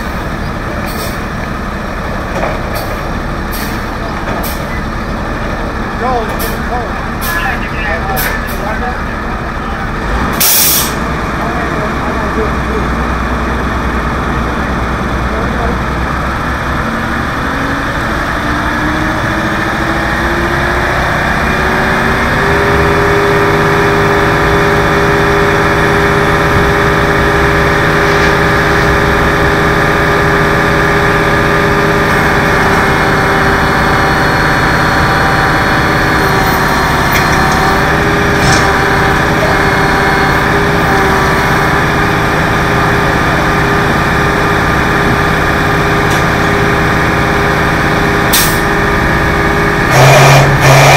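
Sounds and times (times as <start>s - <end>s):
truck engine running: 0.0s - 50.9s.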